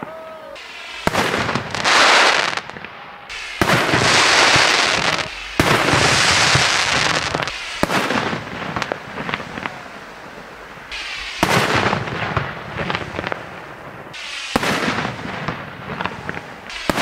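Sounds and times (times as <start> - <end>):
dense firework crackling: 0.0 - 17.0
fireworks bursting: 0.0 - 17.0.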